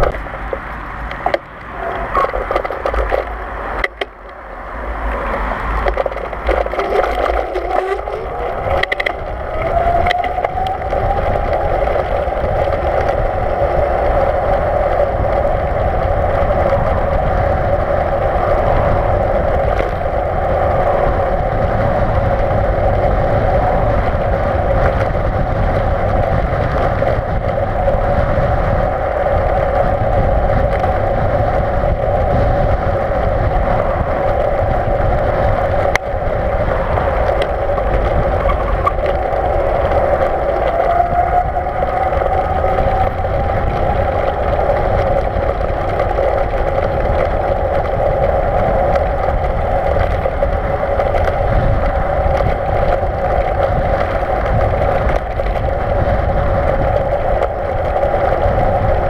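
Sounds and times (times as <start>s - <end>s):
electric bike motor whining: 0.0s - 59.0s
road rumble: 0.0s - 59.0s
wind on microphone: 0.0s - 59.0s.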